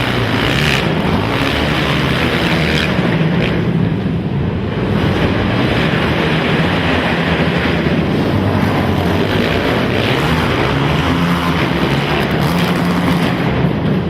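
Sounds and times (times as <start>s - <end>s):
racing atv engines: 0.0s - 14.0s.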